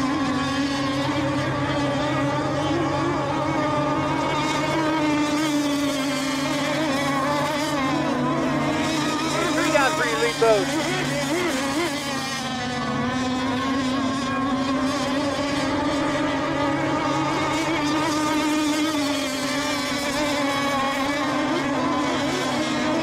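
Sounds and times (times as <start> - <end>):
racing boat engines droning: 0.0 - 23.0.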